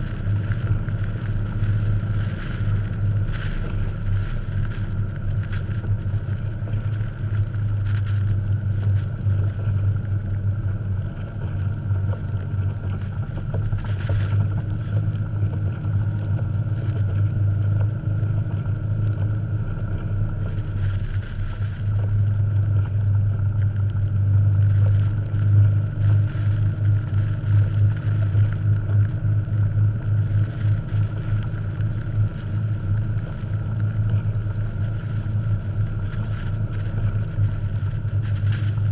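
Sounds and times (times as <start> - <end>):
car engine running: 0.0 - 38.9
vehicle ploughing through snow: 0.0 - 38.9.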